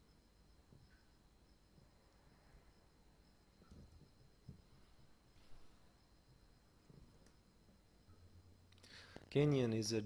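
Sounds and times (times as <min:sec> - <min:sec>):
thin high-pitched whine: 0:00.0 - 0:10.0.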